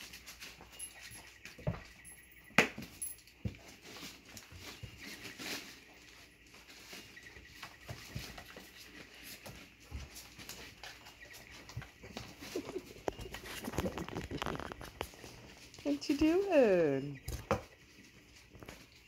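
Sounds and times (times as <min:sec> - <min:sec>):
puppy paws scuffling: 0:00.0 - 0:19.0.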